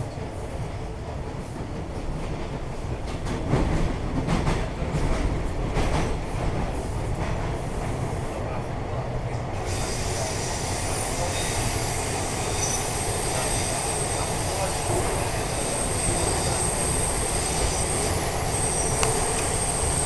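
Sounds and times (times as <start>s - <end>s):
subway train low rumble: 0.0s - 20.0s.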